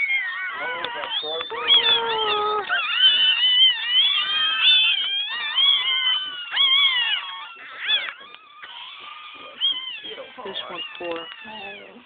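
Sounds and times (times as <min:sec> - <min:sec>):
puppies whining: 0:00.0 - 0:12.0.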